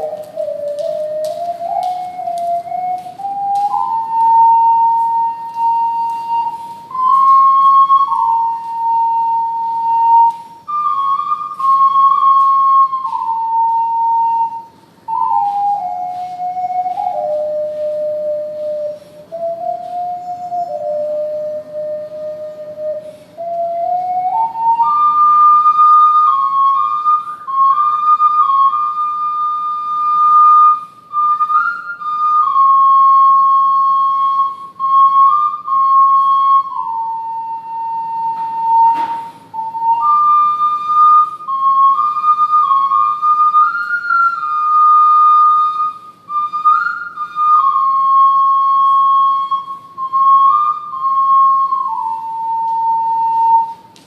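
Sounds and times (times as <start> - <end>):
ocarina melody: 0.0 - 54.0.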